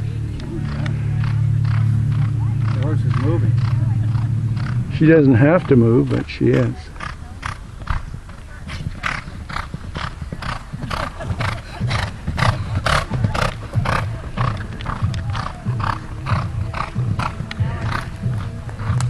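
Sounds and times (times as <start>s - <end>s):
horse blowing breaths: 0.5s - 19.0s
horse hoofbeats on sand: 0.5s - 19.0s.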